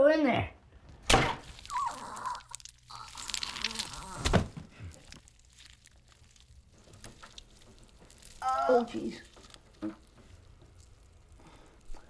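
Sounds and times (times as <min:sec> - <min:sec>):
crackling crinkling rustle: 0:00.7 - 0:12.0.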